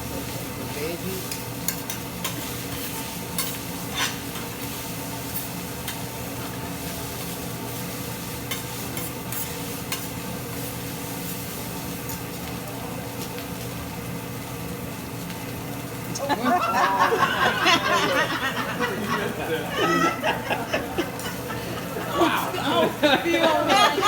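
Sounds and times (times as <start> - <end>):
vegetables sizzling on a griddle: 0.0 - 24.0.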